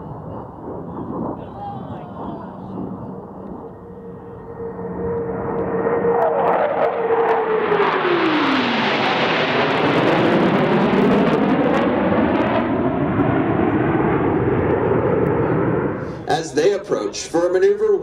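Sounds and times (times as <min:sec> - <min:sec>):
jet engine whine and roar: 0:00.0 - 0:18.0.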